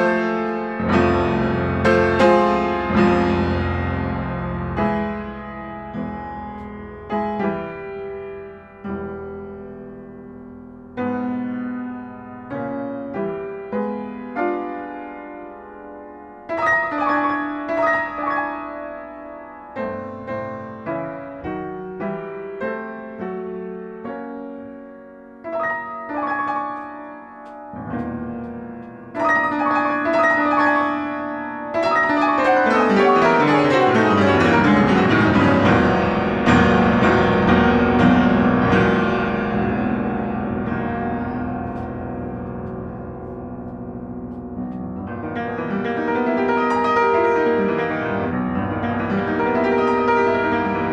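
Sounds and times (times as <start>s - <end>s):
solo piano chords and runs: 0.0s - 50.9s.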